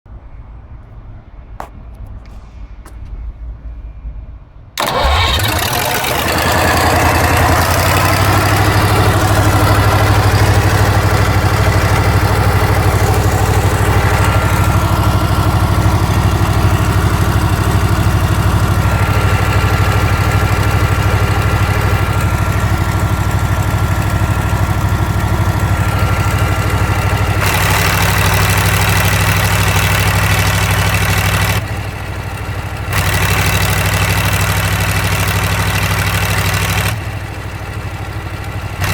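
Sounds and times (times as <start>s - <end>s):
diesel generator engine running: 4.8s - 38.9s.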